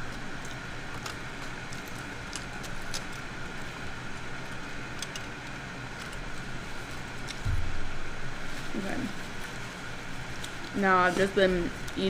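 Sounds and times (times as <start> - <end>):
low hum: 0.0 - 12.0
machinery rumble and hiss: 0.0 - 12.0.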